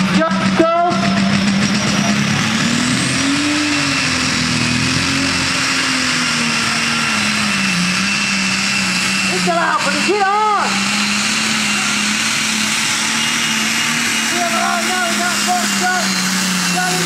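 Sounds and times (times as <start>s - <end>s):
diesel tractor engine under load: 0.0s - 17.0s.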